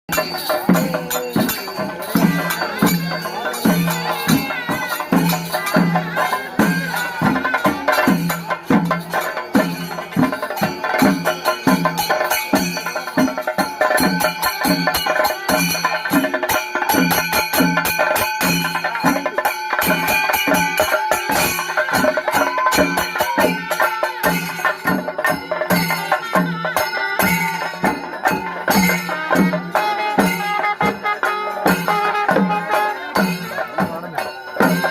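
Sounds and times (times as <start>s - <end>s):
rattling percussion: 0.1s - 34.9s.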